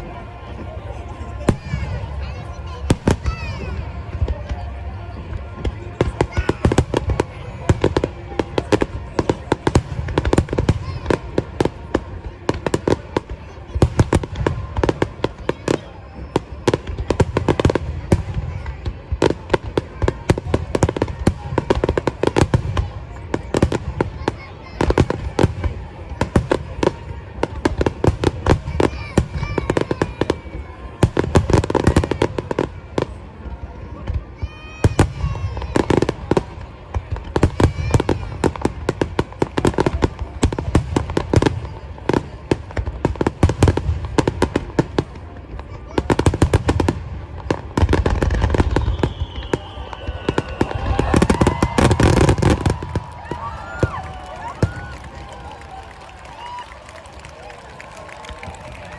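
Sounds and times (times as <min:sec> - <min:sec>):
fireworks bangs and cracks: 0:00.0 - 0:58.9.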